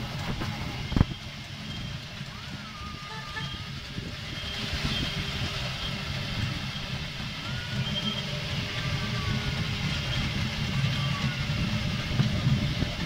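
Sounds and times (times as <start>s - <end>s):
miniature train wheels rumbling: 0.0s - 13.0s.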